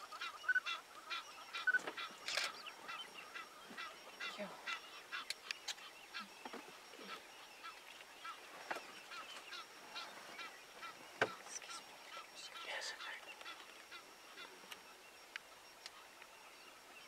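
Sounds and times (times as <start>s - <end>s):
wild dogs twittering: 0.0s - 14.6s.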